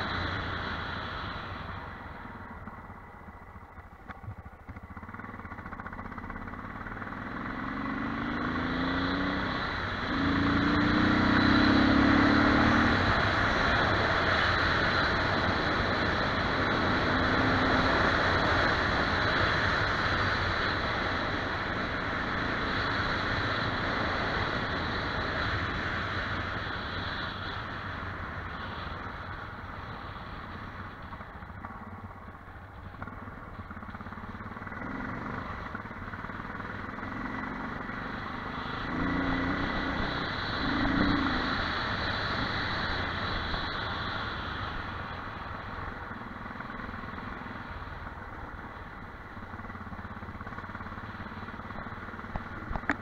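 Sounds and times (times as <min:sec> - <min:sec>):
motorcycle engine pulling away: 0:03.6 - 0:26.3, 0:30.9 - 0:53.0.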